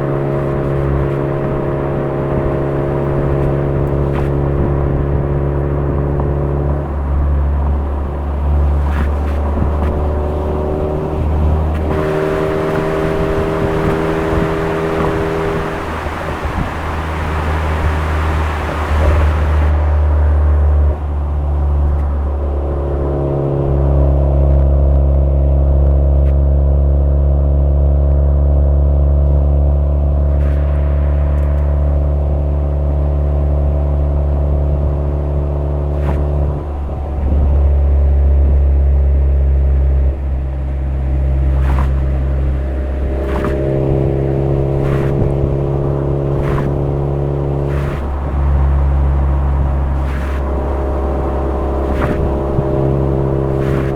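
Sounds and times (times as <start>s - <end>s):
car engine droning while driving: 0.0s - 53.9s.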